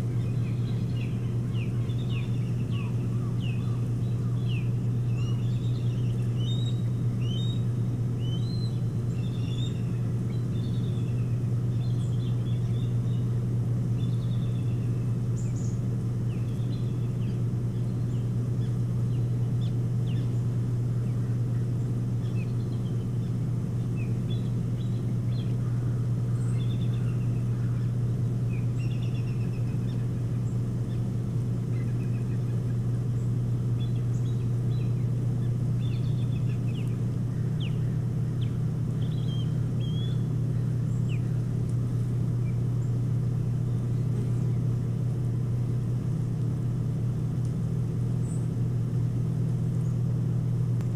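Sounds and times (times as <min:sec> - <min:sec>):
high bird calls and chirps: 0:00.0 - 0:31.1, 0:31.7 - 0:41.5
steady low hum: 0:00.0 - 0:50.9.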